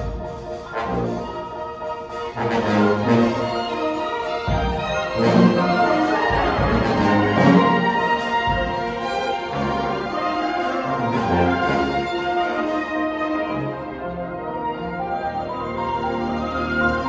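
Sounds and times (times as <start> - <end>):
orchestra playing sustained chords: 0.0 - 17.0.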